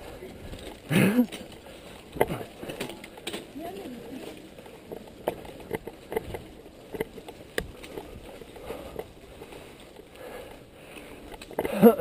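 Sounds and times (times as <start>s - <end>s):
bike knocks and rattles: 0.0s - 10.1s
tyres rumbling on dirt: 0.0s - 12.0s
wind: 0.0s - 12.0s.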